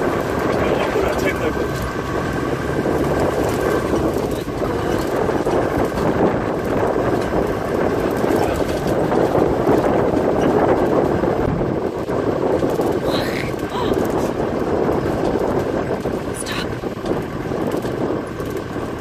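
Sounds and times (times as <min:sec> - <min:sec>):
vehicle driving rumble: 0:00.0 - 0:19.0.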